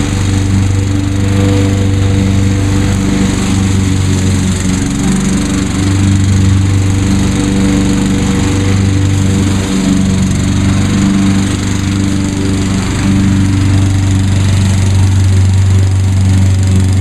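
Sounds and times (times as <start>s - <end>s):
lawn mower engine mowing: 0.0s - 17.0s.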